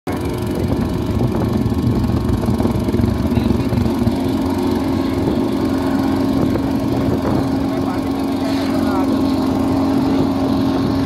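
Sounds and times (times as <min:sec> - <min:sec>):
small engine running steadily: 0:00.1 - 0:11.0.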